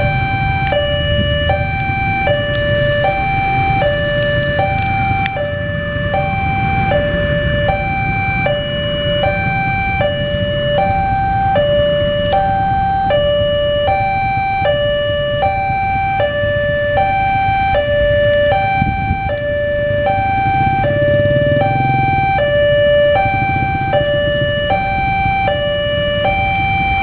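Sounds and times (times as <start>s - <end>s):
idling engines rumbling: 0.0s - 27.0s
level crossing alarm tones: 0.0s - 27.0s.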